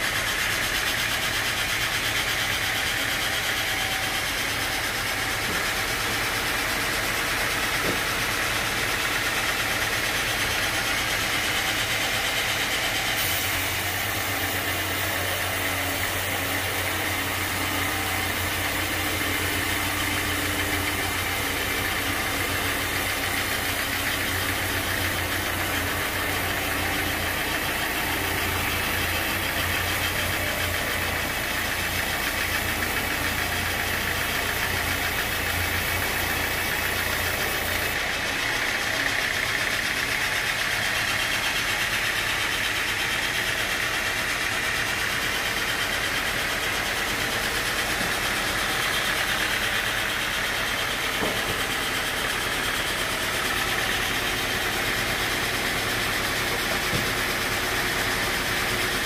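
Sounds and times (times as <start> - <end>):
band sawmill sawing a log: 0.0 - 59.0.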